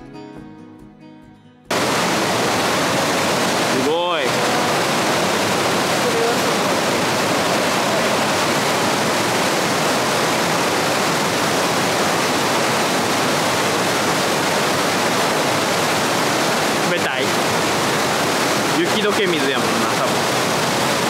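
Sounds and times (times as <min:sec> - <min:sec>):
river rushing over boulders: 0:01.7 - 0:21.0.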